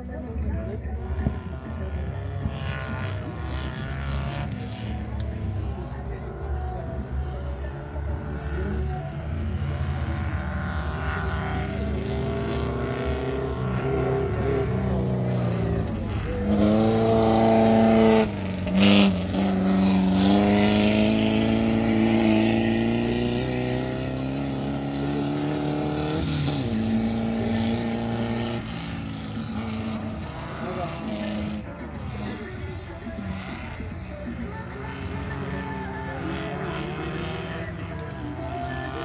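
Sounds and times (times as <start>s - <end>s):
race car engines running hard: 0.0s - 39.0s.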